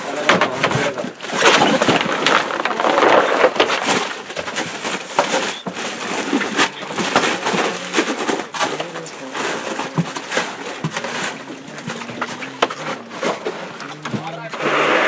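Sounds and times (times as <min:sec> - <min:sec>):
knocks of crates being handled: 0:00.0 - 0:15.0
plastic rustling: 0:00.0 - 0:15.0.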